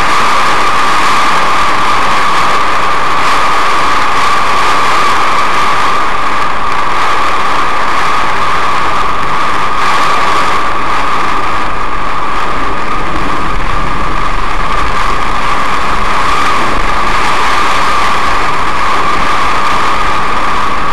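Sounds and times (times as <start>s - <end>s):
heavy rain on a car: 0.0s - 20.9s.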